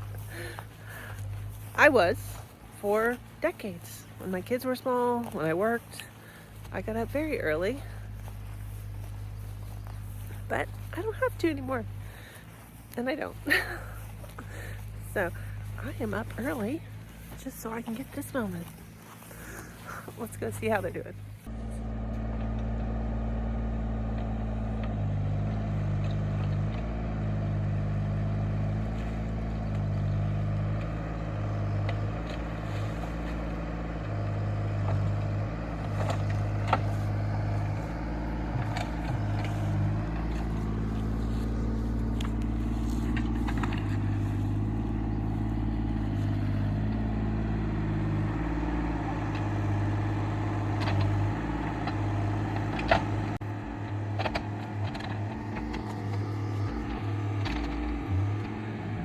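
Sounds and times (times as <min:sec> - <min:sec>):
heavy diesel machine engine working: 0:00.0 - 0:59.0.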